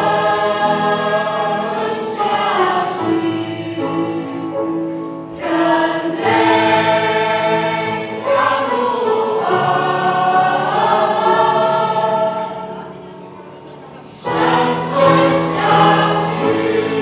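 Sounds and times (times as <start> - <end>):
choir singing long notes: 0.0 - 17.0.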